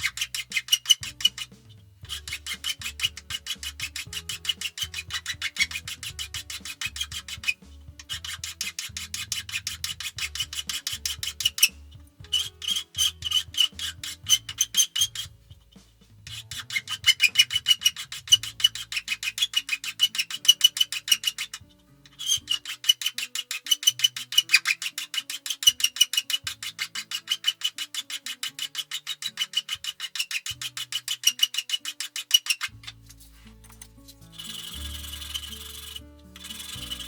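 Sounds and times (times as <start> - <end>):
hand tool rasping on wood: 0.0 - 33.0, 34.3 - 37.0
faint background music: 0.0 - 37.0.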